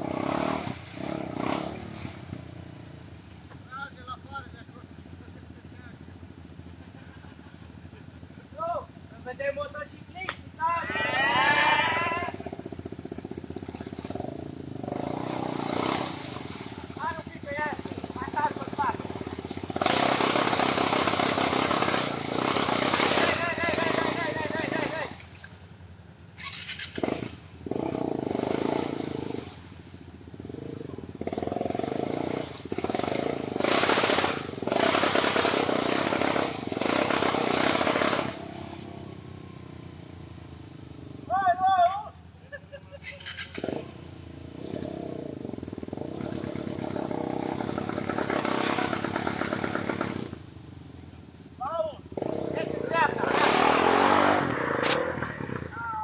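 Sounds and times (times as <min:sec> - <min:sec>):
quad bike engine revving: 0:00.0 - 0:56.0
wheels spinning in mud: 0:04.7 - 0:56.0.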